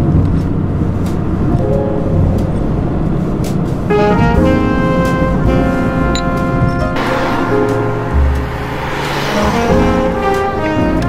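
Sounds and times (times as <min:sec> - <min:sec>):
background music: 0:00.0 - 0:11.0
car driving rumble: 0:00.0 - 0:11.0.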